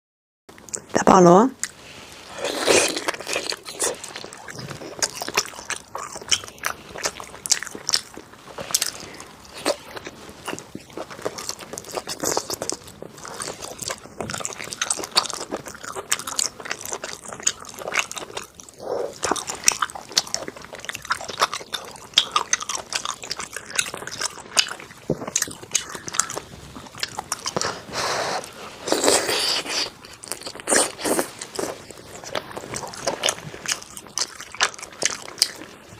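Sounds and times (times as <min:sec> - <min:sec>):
crunchy chewing: 0:01.6 - 0:35.9.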